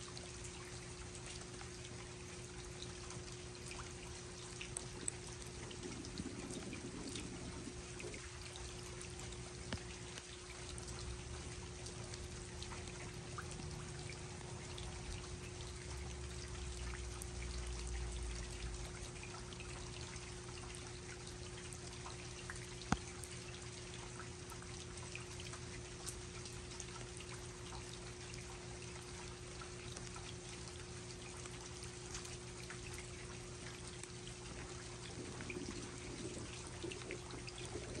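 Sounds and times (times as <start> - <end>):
rain falling: 0.0 - 24.2, 25.9 - 38.0
drips ticking: 0.0 - 38.0
faint steady hum: 0.0 - 38.0.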